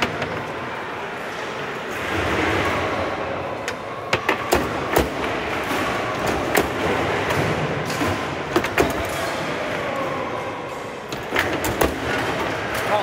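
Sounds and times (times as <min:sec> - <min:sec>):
hall background noise: 0:00.0 - 0:13.0.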